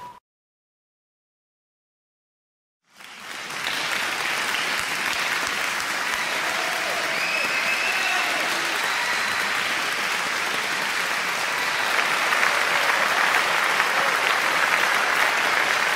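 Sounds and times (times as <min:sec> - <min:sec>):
audience applauding: 0:02.9 - 0:15.9.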